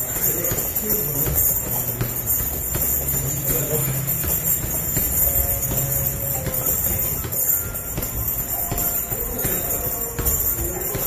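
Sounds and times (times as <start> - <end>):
footwork: 0.0 - 11.0
punches thudding on heavy bag: 0.0 - 11.0.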